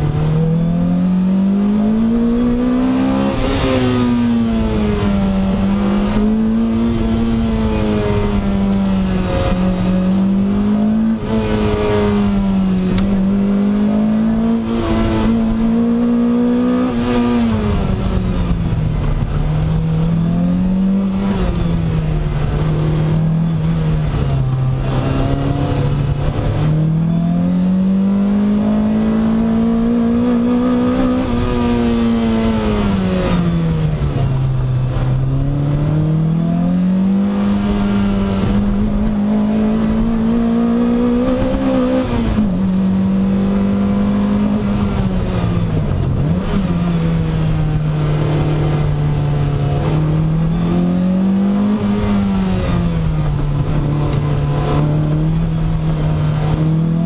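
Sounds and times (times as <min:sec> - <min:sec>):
car engine at hard throttle: 0:00.0 - 0:57.0
road and tyre noise: 0:00.0 - 0:57.0.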